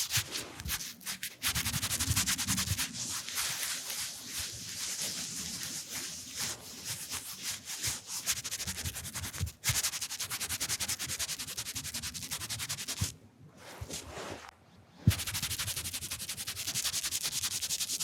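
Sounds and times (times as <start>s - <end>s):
fast rubbing strokes: 0.0s - 13.1s, 15.1s - 18.0s.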